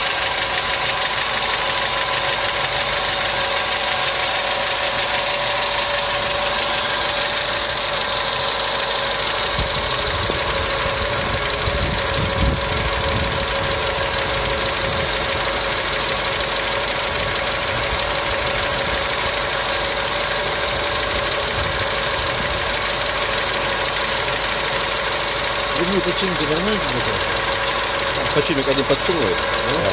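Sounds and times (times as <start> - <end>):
car engine idling: 0.0 - 29.9
constant whine: 0.0 - 29.9
rapid engine ticking: 0.0 - 29.9.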